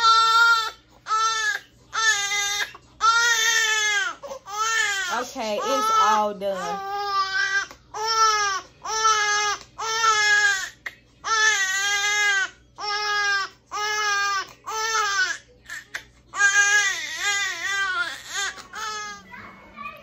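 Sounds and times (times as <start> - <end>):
infant crying: 0.0 - 19.4.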